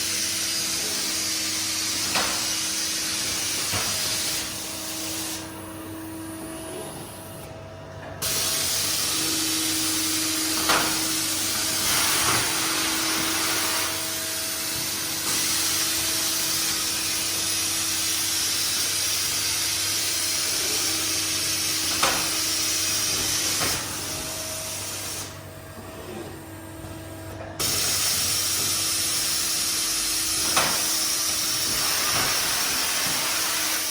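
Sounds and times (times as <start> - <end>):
machine hum: 0.0 - 33.9.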